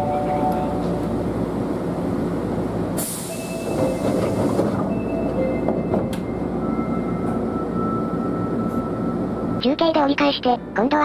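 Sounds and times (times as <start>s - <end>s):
subway train rumbling in tunnel: 0.0s - 11.0s.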